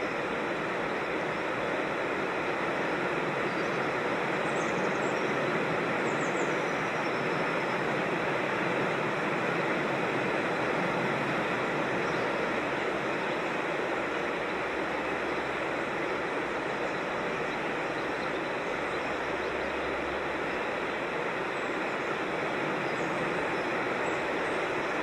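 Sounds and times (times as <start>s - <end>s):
water cascading down a creek: 0.0s - 25.0s.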